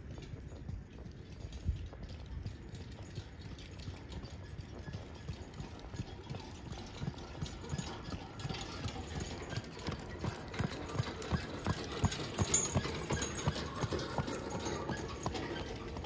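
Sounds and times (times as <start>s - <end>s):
horse hooves trotting on pavement: 0.0s - 16.0s.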